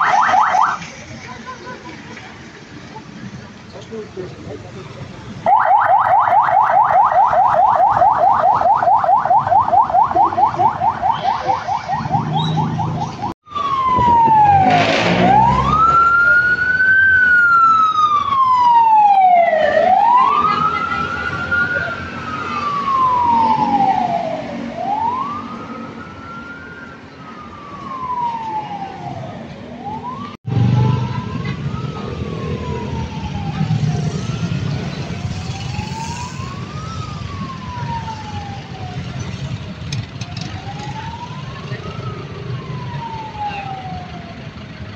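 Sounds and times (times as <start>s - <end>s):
emergency sirens wailing: 0.0s - 1.2s, 4.2s - 44.9s
traffic and engine rumble: 0.0s - 44.9s.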